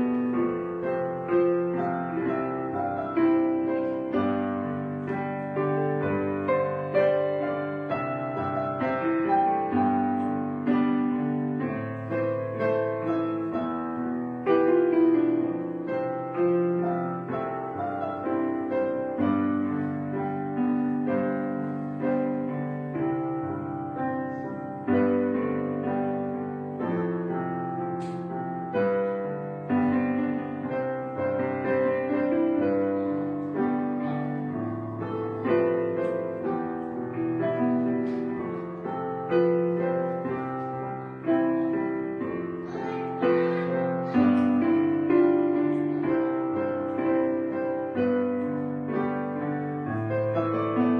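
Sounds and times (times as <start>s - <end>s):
gentle piano music: 0.0s - 50.9s.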